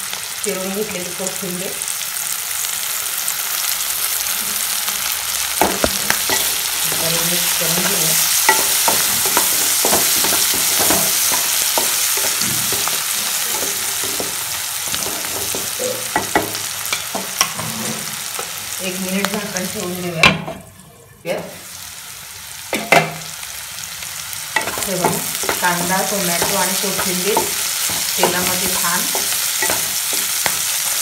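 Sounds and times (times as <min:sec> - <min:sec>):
onion and tomato sizzling in oil: 0:00.0 - 0:31.0.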